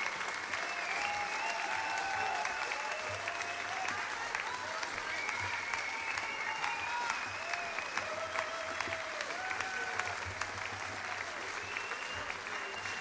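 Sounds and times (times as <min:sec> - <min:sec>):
audience applauding: 0:00.0 - 0:13.0
audience cheering: 0:00.0 - 0:13.0.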